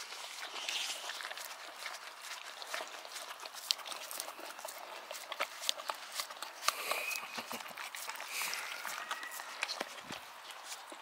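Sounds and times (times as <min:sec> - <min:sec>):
puppy licking and eating: 0:00.0 - 0:11.0.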